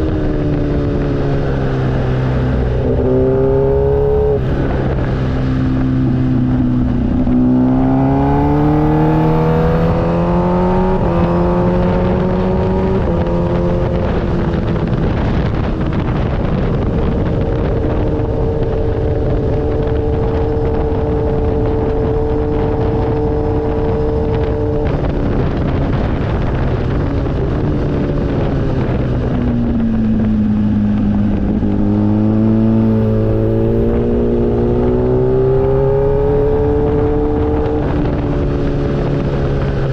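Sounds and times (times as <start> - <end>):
motorcycle engine shifting gears: 0.0 - 39.9
wind noise: 0.0 - 39.9.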